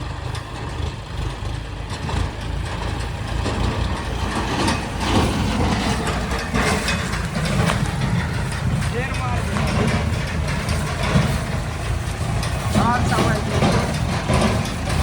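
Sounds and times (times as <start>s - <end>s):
heavy diesel engines running: 0.0s - 15.0s.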